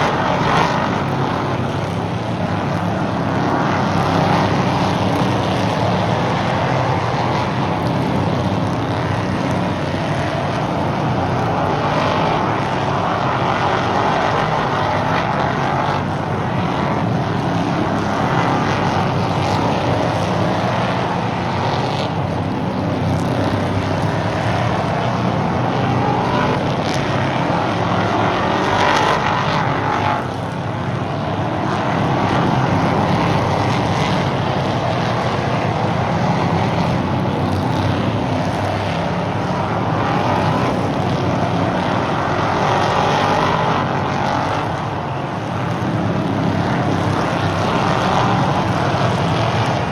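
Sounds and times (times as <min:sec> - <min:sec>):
race car engines passing: 0:00.0 - 0:49.9.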